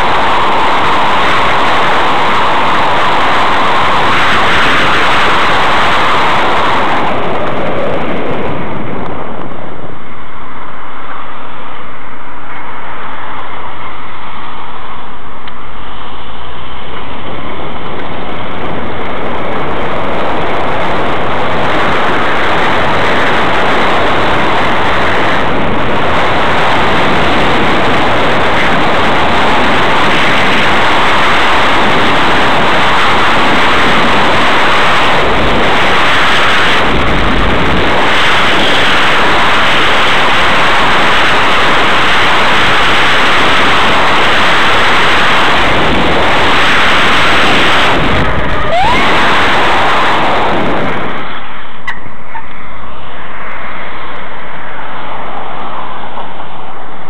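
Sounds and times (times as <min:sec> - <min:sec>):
road noise: 0:00.0 - 0:57.0
wind rushing on microphone: 0:00.0 - 0:57.0.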